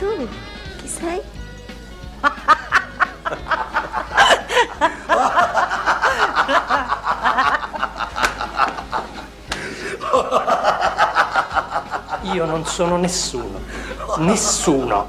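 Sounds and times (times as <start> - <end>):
man and woman laughing: 2.2 - 15.0.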